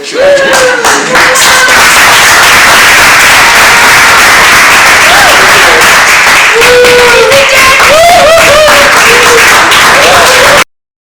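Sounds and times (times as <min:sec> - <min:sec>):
voices calling out: 0:00.0 - 0:10.7
audience applauding: 0:00.2 - 0:10.7.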